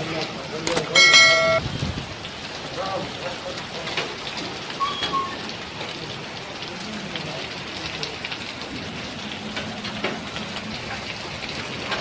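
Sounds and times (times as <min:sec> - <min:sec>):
hailstones ticking on ground: 0:00.0 - 0:04.8, 0:05.4 - 0:12.0
heavy rain hissing: 0:01.6 - 0:12.0.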